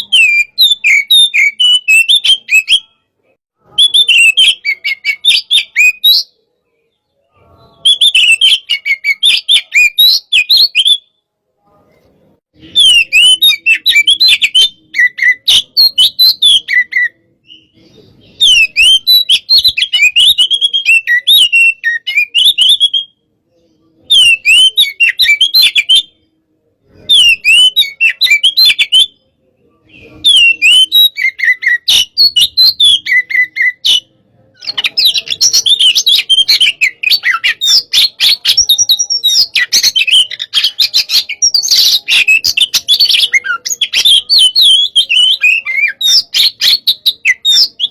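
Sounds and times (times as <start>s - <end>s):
songbird singing whistles and chatter: 0.0s - 47.9s.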